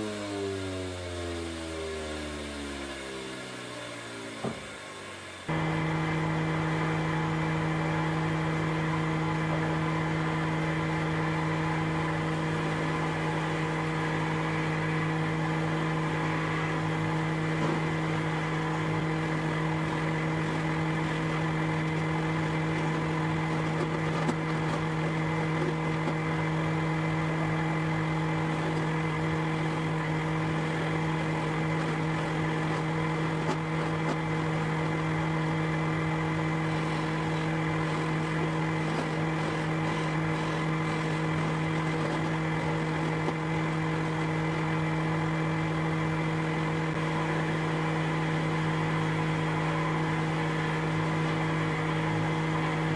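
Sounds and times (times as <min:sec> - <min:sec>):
electric motor humming: 0:05.5 - 0:52.9.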